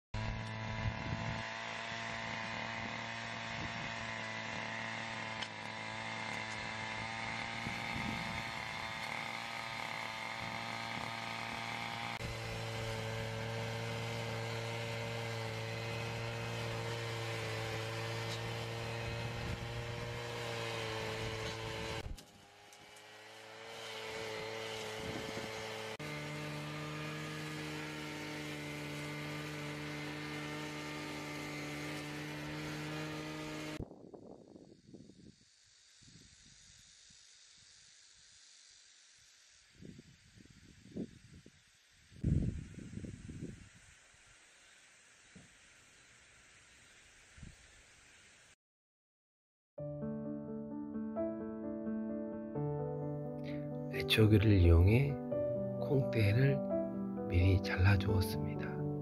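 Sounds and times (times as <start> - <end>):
brush cutter engine running: 0.2 - 45.7, 53.3 - 59.0.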